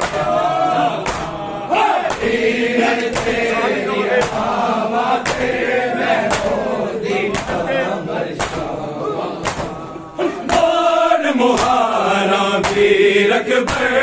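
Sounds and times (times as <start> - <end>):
hands slapping bare chests: 0.0 - 6.7, 7.3 - 8.8, 9.4 - 10.8, 11.5 - 12.0, 12.6 - 14.0
men chanting in chorus: 0.0 - 14.0.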